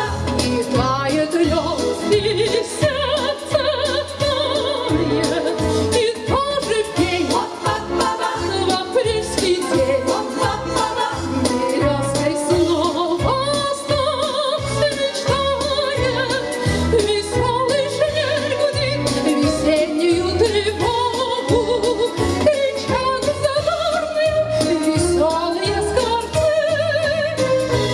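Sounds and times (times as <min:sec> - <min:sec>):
women singing with vibrato: 0:00.0 - 0:27.8.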